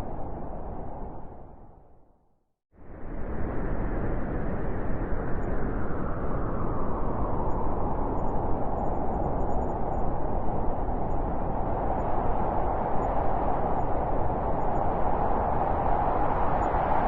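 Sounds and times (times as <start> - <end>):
howling blizzard wind: 0.0 - 2.2, 2.8 - 17.0.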